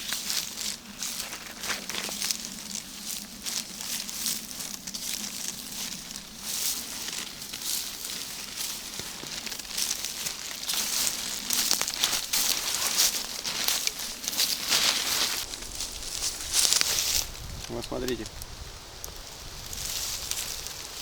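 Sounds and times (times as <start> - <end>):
footsteps through undergrowth: 0.0 - 21.0
leaves and twigs crackling: 0.0 - 21.0.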